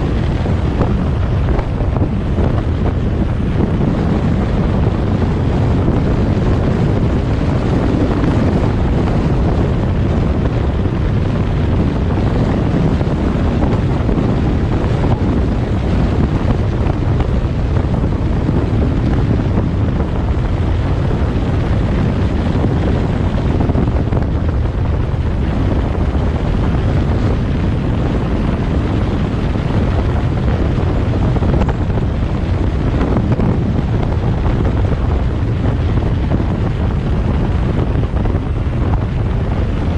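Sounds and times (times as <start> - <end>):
vehicle rumble: 0.0 - 39.9
wind buffeting microphone: 0.0 - 39.9.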